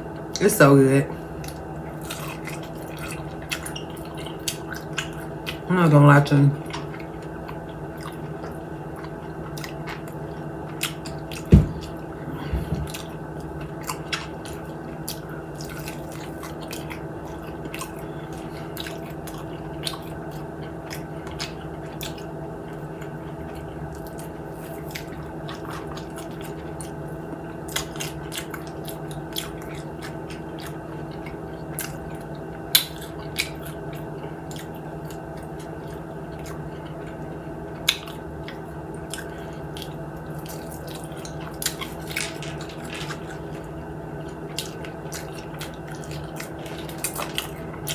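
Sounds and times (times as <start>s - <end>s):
steady low hum: 0.0s - 47.9s
chewing and lip smacking: 1.3s - 5.7s, 6.6s - 47.9s.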